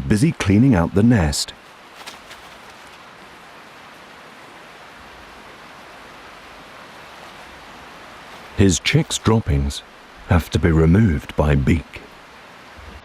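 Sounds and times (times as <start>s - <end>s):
rain falling in forest: 0.0s - 13.0s.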